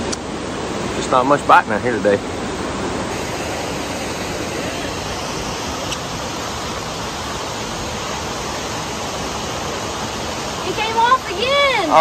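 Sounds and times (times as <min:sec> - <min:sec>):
water rushing through spillway: 0:00.0 - 0:12.0.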